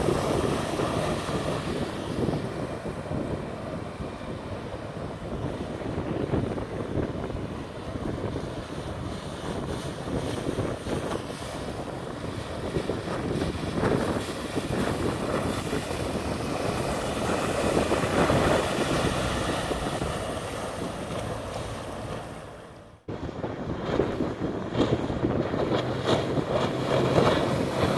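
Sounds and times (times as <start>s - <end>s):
motorboat passing at speed: 0.0s - 27.9s
wind buffeting microphone: 0.0s - 27.9s.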